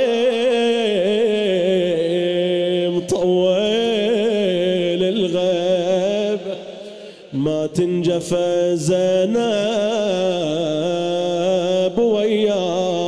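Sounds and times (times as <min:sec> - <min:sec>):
man chanting unaccompanied: 0:00.0 - 0:13.0.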